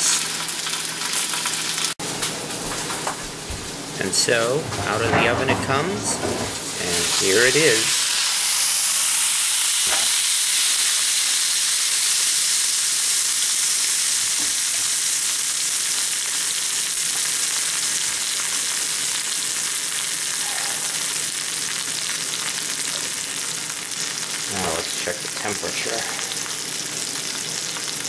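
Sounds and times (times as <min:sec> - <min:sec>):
fat sizzling in a skillet: 0:00.0 - 0:03.9, 0:06.6 - 0:28.0.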